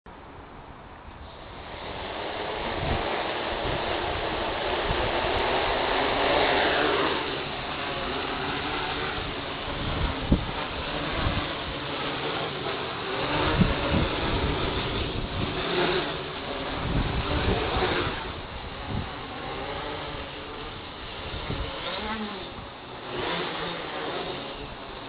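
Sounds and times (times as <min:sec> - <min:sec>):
quadcopter motors buzzing: 0:01.0 - 0:25.0
wind thumping on microphone: 0:01.1 - 0:12.4, 0:13.2 - 0:23.4.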